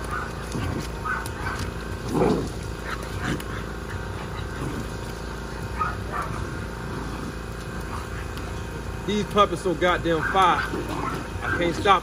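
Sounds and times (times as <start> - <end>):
puppies growling: 0.0 - 12.0.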